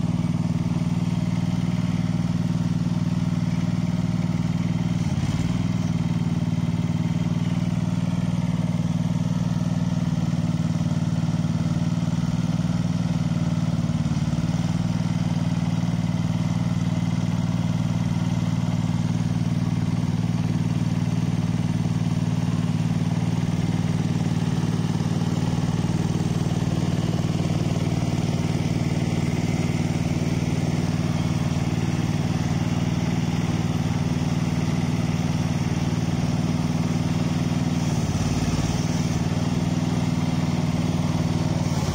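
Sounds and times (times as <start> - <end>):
small petrol engine running: 0.0 - 41.9.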